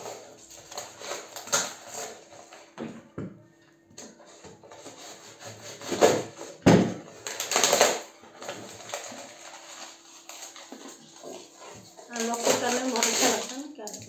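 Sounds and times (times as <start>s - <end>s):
packaging rustling and scraping: 0.0s - 2.8s, 4.0s - 14.0s.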